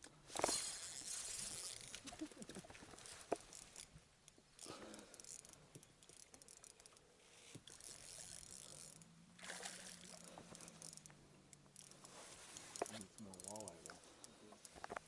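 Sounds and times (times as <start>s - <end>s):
fishing reel clicking: 0.4s - 2.2s, 3.3s - 14.9s.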